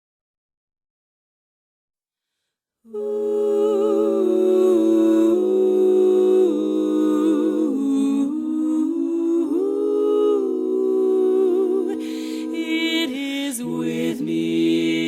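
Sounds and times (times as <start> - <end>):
vocal group humming harmony: 2.9 - 15.0.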